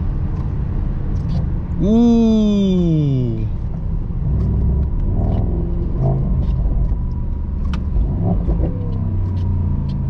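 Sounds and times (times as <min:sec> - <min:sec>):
car engine running low: 0:00.0 - 0:10.0.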